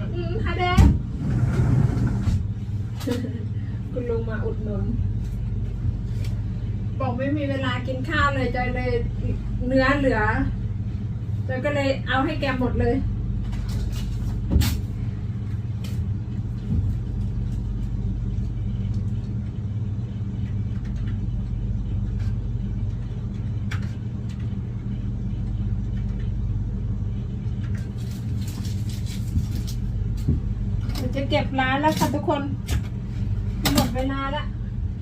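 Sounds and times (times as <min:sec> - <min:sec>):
low mechanical hum: 0:00.0 - 0:35.0.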